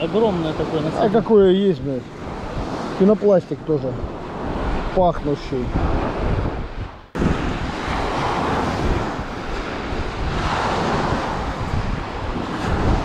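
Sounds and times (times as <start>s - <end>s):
waves washing on shore: 0.0s - 13.0s
wind buffeting microphone: 0.0s - 13.0s.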